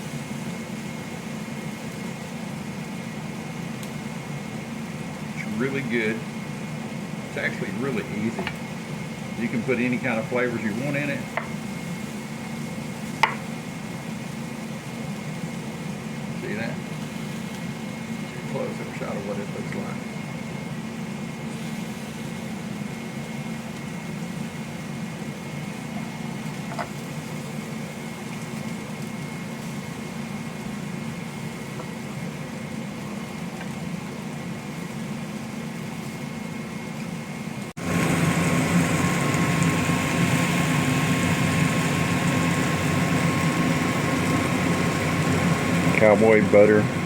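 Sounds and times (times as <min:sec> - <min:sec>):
appliance humming: 0:00.0 - 0:47.0
louder hum with faint whine: 0:00.0 - 0:47.0.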